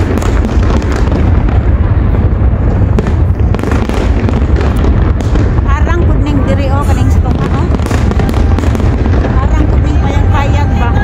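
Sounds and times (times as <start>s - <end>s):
fireworks booms and cracks: 0.0s - 11.0s.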